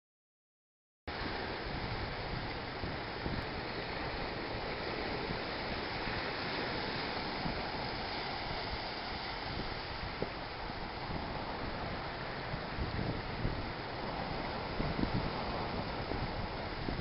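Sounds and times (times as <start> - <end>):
surf breaking over rocks: 1.1 - 17.0.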